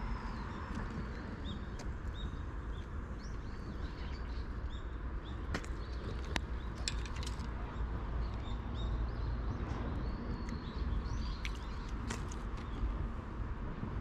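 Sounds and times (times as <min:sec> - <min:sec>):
small birds chirping: 0:00.3 - 0:13.0.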